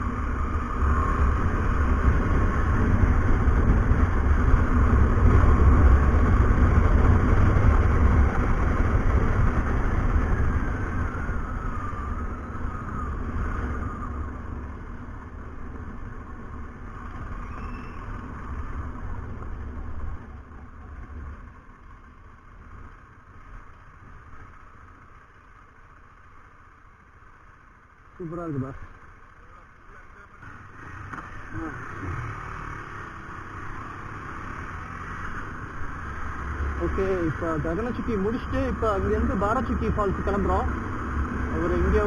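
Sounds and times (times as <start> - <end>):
motorcycle engine rumble: 0.0 - 42.0
road and wind noise: 0.0 - 42.0.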